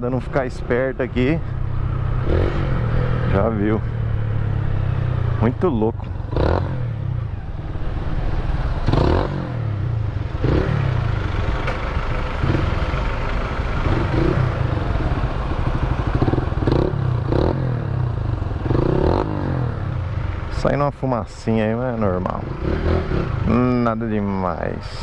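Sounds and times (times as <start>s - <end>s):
motorcycle engine revving: 0.0s - 20.8s, 21.7s - 25.0s.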